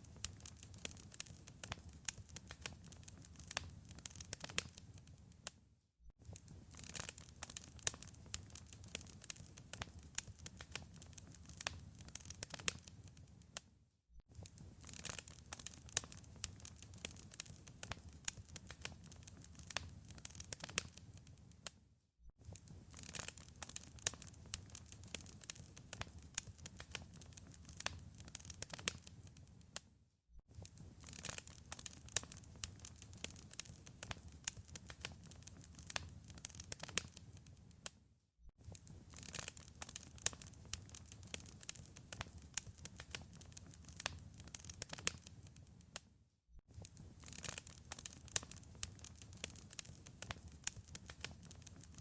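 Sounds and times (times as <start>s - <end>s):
wood fire crackling: 0.0s - 5.5s, 6.2s - 13.6s, 14.3s - 21.6s, 22.4s - 29.8s, 30.6s - 37.9s, 38.6s - 46.0s, 46.7s - 52.0s.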